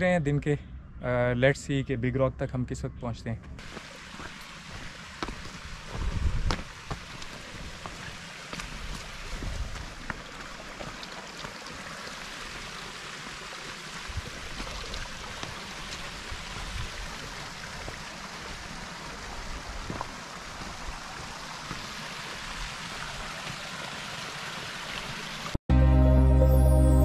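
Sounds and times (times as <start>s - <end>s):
running water: 3.6s - 25.6s.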